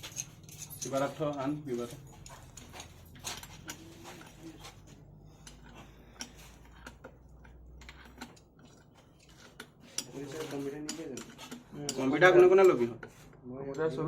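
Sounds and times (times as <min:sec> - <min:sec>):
metal tools clinking: 0:00.0 - 0:12.8.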